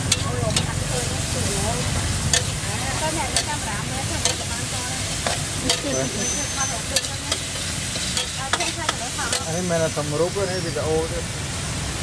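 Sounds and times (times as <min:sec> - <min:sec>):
metal spatula scraping wok: 0:00.0 - 0:11.0
shellfish sizzling in wok: 0:00.0 - 0:12.0.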